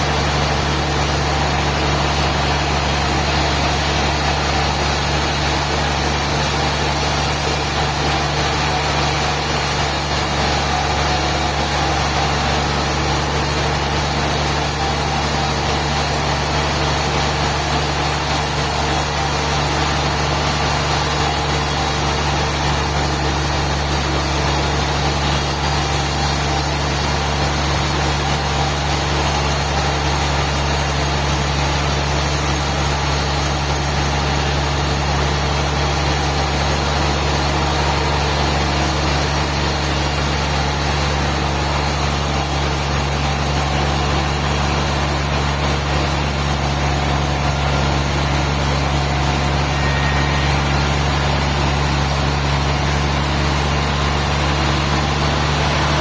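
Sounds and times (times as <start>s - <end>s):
sawmill machinery low drone: 0.0s - 56.0s.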